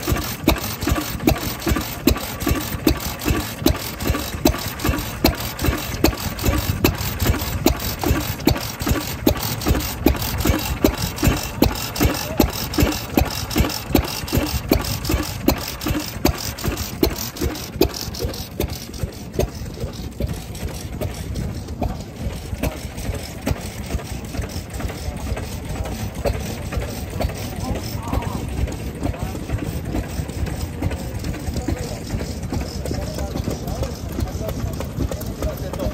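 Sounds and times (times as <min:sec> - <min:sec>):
single-cylinder engine idling: 0:00.0 - 0:35.9.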